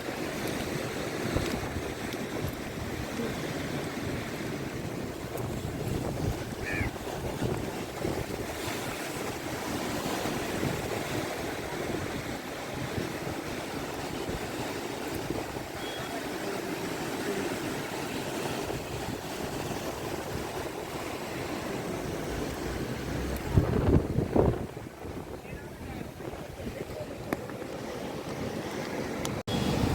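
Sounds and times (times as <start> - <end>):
waves washing: 0.0 - 29.9
wind: 0.0 - 29.9.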